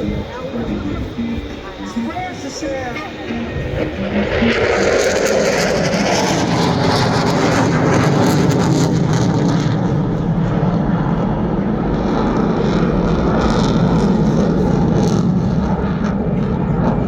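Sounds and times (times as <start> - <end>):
fighter jet flying past: 0.0 - 17.0.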